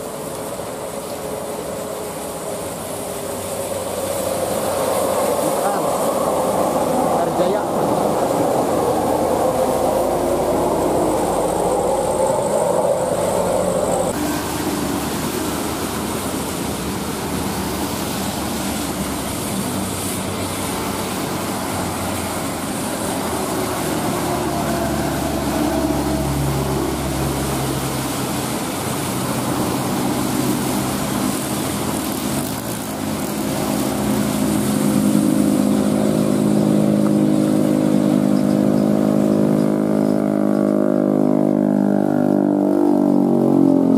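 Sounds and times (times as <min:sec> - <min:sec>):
coach engine passing: 0:00.0 - 0:43.9
traffic on wet road: 0:00.0 - 0:43.9
truck diesel engine climbing: 0:03.3 - 0:43.9.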